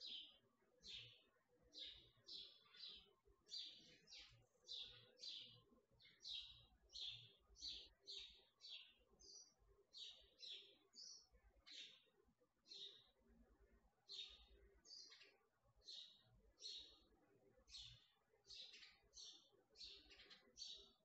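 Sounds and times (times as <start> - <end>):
small bird chirping faintly: 0.0 - 21.0.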